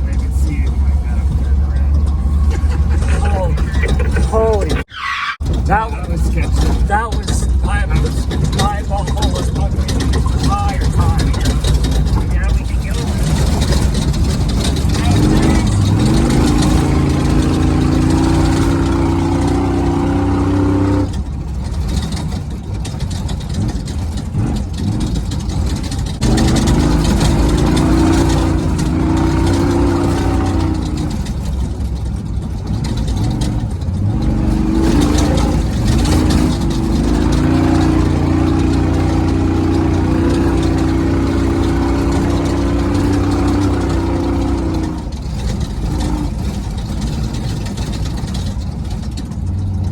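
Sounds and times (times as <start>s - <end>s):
race truck engine running hard: 0.0s - 49.9s.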